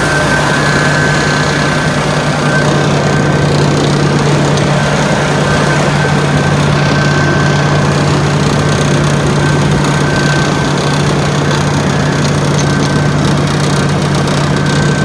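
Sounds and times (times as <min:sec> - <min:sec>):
engine drone with high whine: 0:00.0 - 0:15.0.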